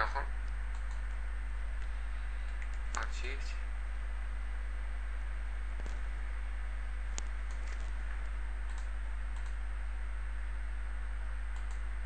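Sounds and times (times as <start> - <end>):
microphone hum and hiss: 0.0 - 12.0.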